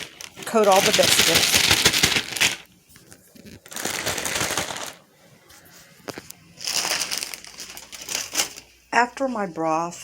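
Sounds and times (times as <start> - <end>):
plastic bag rustling: 0.0 - 9.6.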